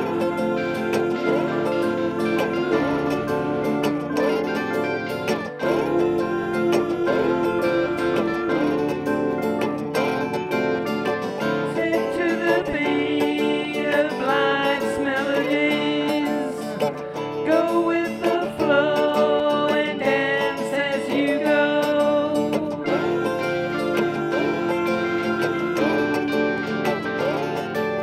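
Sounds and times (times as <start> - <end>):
country music with acoustic guitar: 0.0 - 28.0.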